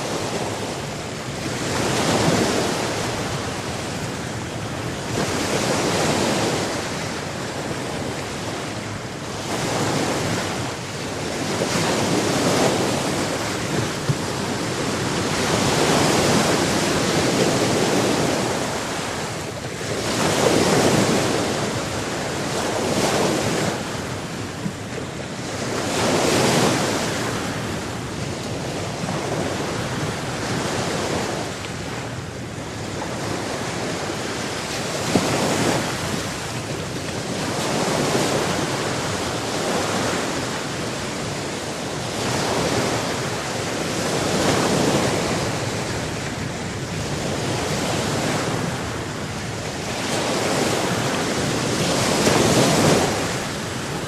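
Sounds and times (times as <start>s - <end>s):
sea waves breaking on shore: 0.0s - 54.0s
wind: 0.0s - 54.0s.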